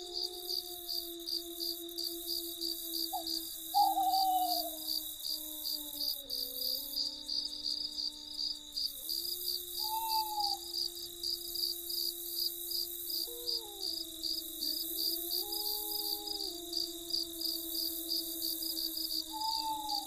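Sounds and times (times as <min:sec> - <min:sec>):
crickets chirping: 0:00.0 - 0:20.0
high insect trill: 0:00.0 - 0:20.0.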